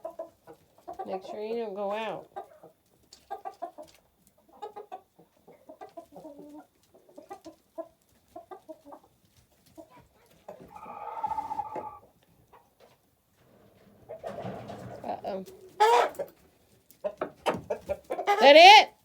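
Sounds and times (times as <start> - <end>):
chickens clucking: 0.0 - 18.6.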